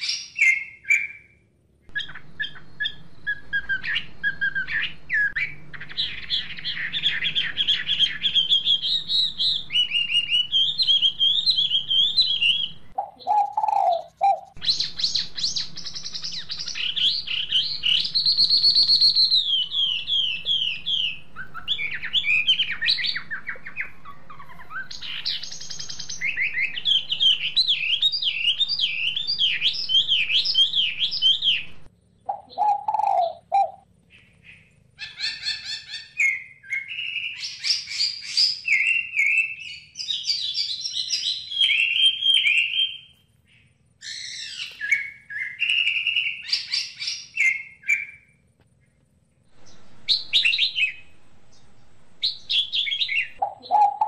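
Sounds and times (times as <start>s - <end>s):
lower bird call: 0.0s - 54.0s
small birds chirping: 0.0s - 54.0s.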